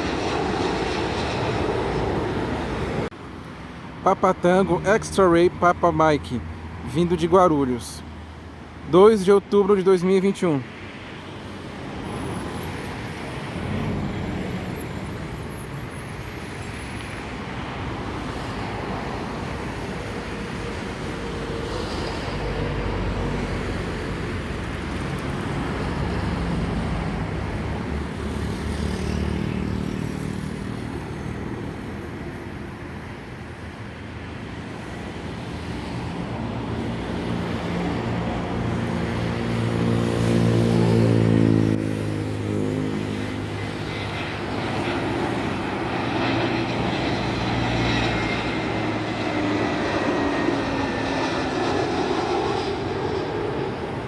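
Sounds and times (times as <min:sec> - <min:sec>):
jet engines rushing: 0:00.0 - 0:32.6, 0:33.3 - 0:54.0.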